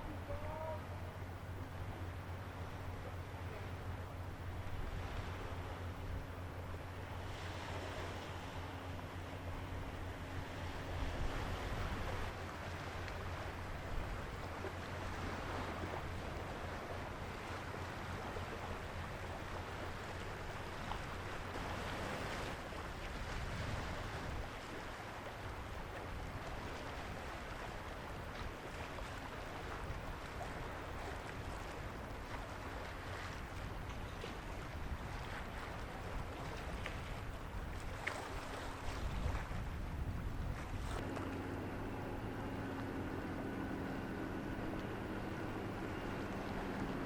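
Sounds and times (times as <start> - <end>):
low hum of ship engines: 0.0 - 47.0
rush of wind and water: 0.0 - 47.0.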